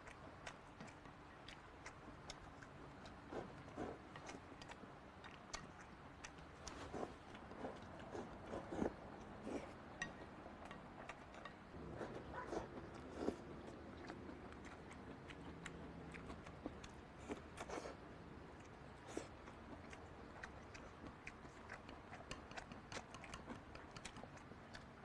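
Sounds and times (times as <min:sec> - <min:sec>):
person chewing: 0:00.0 - 0:24.9.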